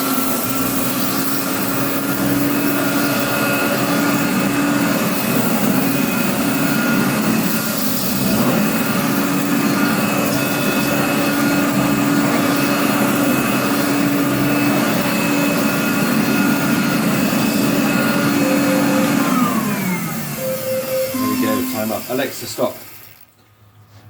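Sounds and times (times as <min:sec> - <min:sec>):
vacuum cleaner running: 0:00.0 - 0:23.3
motor winding down: 0:00.0 - 0:23.4.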